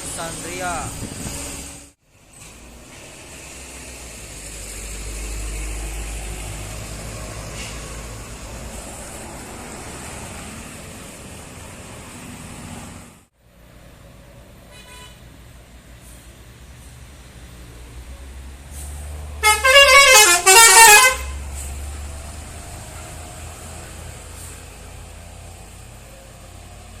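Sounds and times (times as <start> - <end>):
bus diesel engine climbing: 0.0 - 14.6, 15.2 - 27.0
traffic noise: 0.0 - 27.0.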